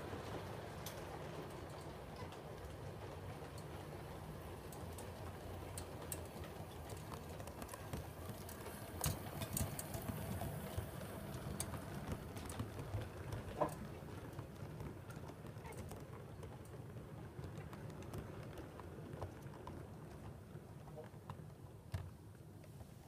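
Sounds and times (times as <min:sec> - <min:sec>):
model train rumbling: 0:00.0 - 0:21.7
wheels clicking over rail joints: 0:00.0 - 0:22.8.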